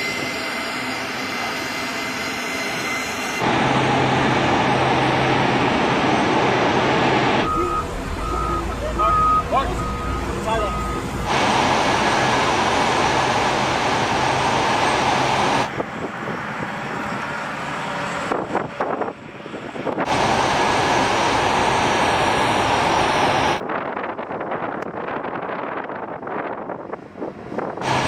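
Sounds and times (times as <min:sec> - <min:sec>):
jet engines roaring: 0:00.0 - 0:23.6, 0:26.9 - 0:28.0.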